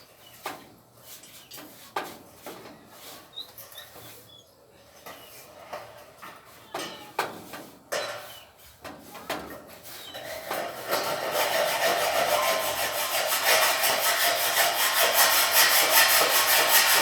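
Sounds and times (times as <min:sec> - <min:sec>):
knocks and scrapes of building materials: 0:00.2 - 0:04.3, 0:05.0 - 0:17.0.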